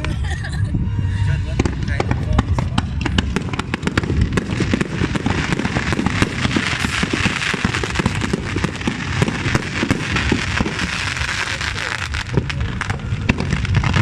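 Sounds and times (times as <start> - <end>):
fireworks bangs and crackles: 0.0 - 0.2, 1.4 - 14.0.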